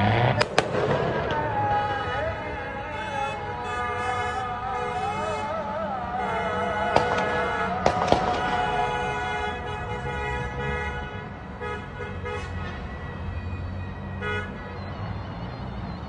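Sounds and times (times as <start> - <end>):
car horns honking: 0.0 - 15.5
low rumble of slow cars: 0.0 - 16.0.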